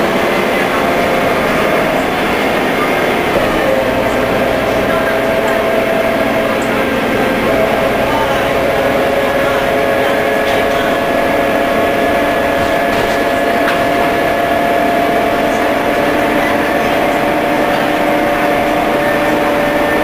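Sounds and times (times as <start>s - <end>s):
bus engine humming with whine: 0.0s - 20.0s.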